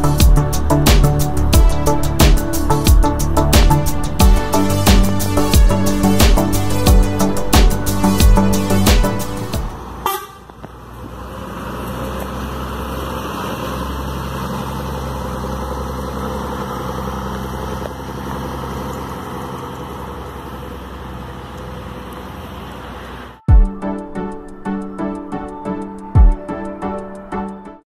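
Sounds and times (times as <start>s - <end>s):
tyres on cobblestones: 0.0s - 23.4s
bus engine rumble: 0.0s - 27.7s.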